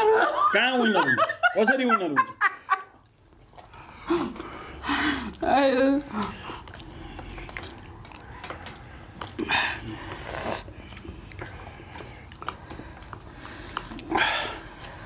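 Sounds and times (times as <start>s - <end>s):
chewing and biting dumplings: 2.8s - 15.0s.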